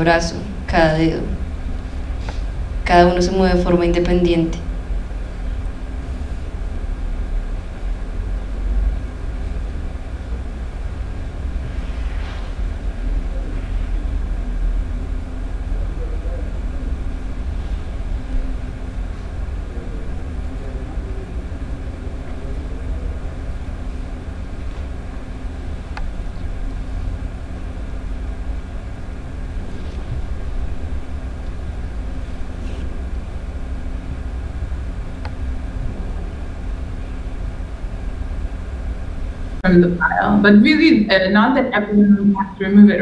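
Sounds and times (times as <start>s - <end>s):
faint hum: 0.0s - 43.0s
steady low rumble: 0.0s - 43.0s.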